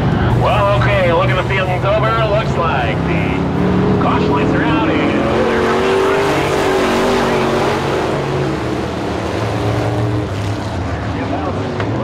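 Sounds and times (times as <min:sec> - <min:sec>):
lower engine note: 0:00.0 - 0:12.0
racing truck engines: 0:00.0 - 0:12.0.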